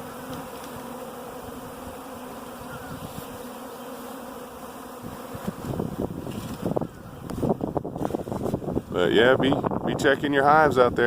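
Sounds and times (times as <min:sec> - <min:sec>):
bees buzzing: 0:00.0 - 0:10.5.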